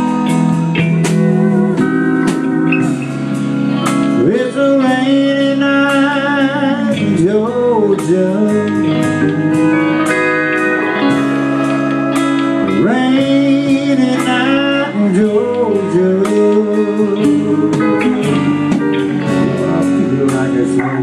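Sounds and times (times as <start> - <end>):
band playing soul ballad: 0.0 - 21.0
lead guitar bending notes: 0.0 - 21.0.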